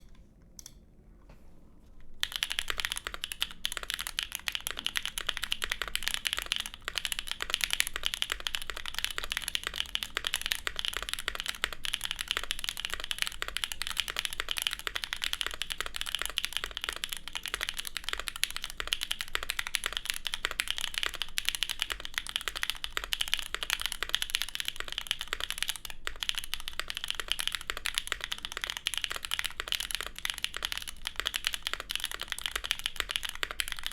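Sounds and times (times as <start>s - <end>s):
fast typing on mechanical keyboard: 2.2s - 33.9s.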